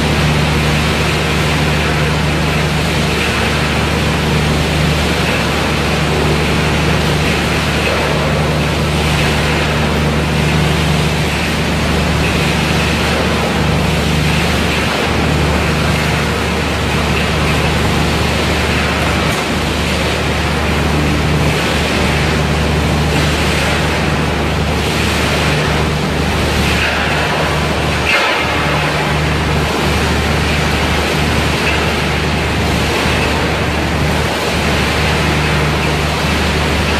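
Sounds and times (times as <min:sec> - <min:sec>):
low machine hum: 0:00.0 - 0:36.9
recycling machinery noise: 0:00.0 - 0:36.9.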